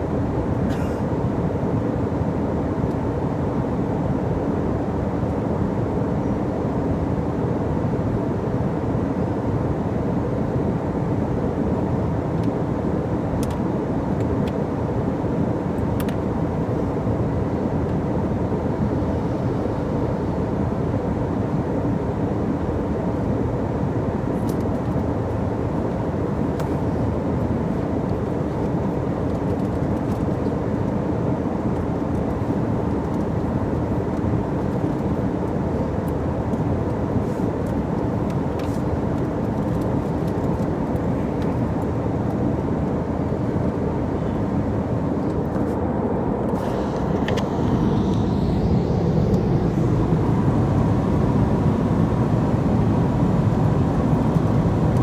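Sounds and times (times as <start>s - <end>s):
airliner cabin engine roar: 0.0s - 55.0s.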